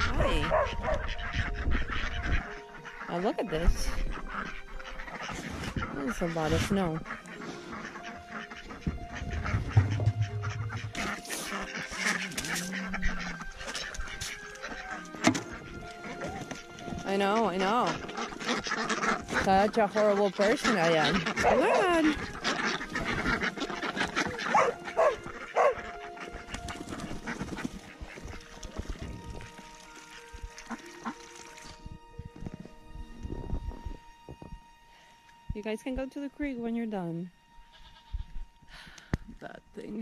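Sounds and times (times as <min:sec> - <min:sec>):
ducks quacking: 0:00.0 - 0:31.9, 0:36.0 - 0:39.2
background music with held notes: 0:00.0 - 0:40.0.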